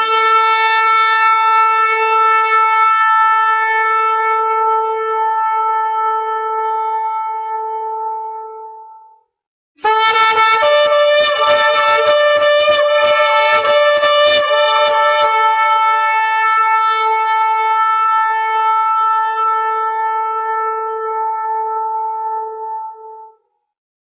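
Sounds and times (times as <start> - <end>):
shofar blast: 0.0 - 8.8, 9.8 - 23.4.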